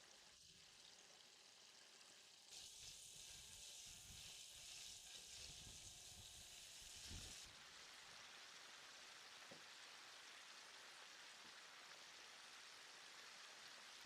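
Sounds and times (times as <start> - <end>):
food frying in hot oil: 0.0 - 14.0.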